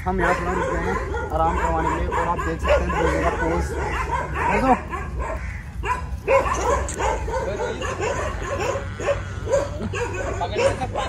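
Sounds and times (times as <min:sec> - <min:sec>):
dogs whining and yipping: 0:00.2 - 0:11.0.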